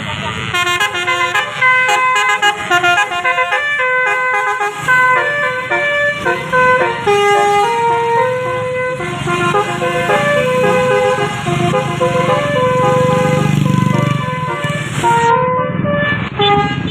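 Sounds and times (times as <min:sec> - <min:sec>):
bus horn playing a melody: 0:00.0 - 0:16.9.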